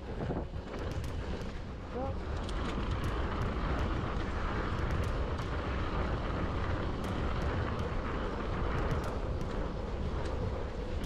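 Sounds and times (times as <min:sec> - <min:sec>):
bike tyres rumbling on dirt: 0:00.0 - 0:11.0
wind buffeting microphone: 0:00.0 - 0:11.0
small clicks and rattles: 0:00.2 - 0:11.0.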